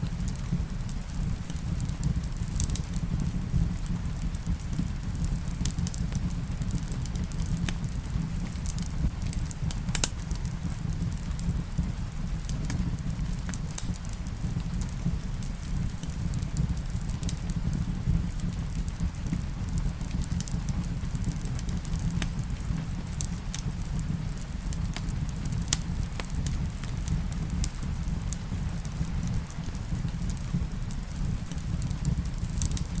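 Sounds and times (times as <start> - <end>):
fire popping: 0.0 - 33.0
steady rain: 0.0 - 33.0
wood fire crackling: 0.0 - 33.0.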